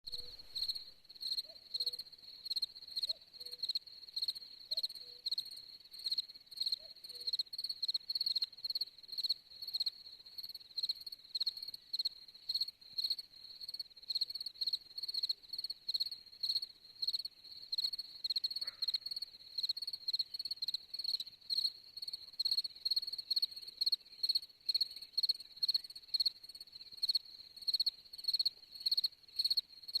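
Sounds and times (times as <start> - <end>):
cricket chirping: 0.1 - 30.0.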